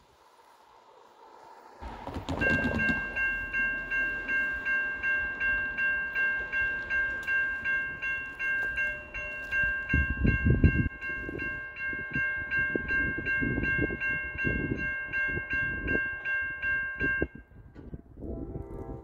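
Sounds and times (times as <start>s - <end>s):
crossing warning bell ringing: 1.8s - 19.0s.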